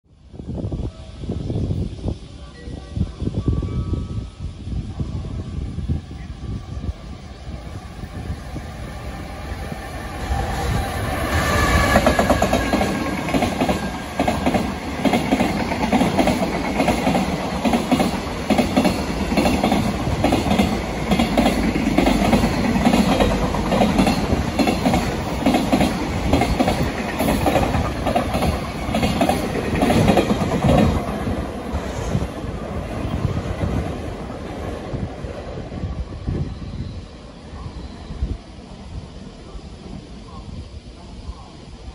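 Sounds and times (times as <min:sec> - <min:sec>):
electric locomotive whine: 0:00.1 - 0:41.9.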